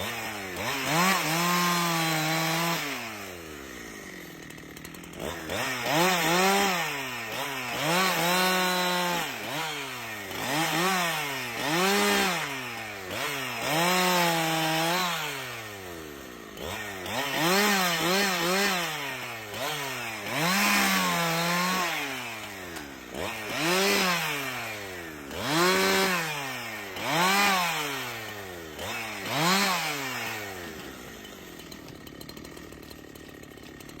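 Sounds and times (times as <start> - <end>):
chainsaw revving cutting wood: 0.0 - 34.0.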